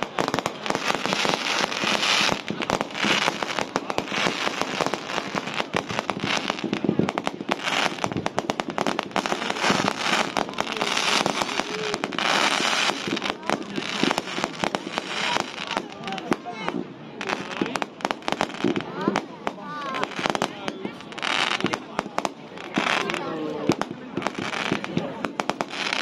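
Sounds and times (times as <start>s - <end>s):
dense fireworks crackling: 0.0s - 26.0s
fireworks bangs: 0.0s - 26.0s.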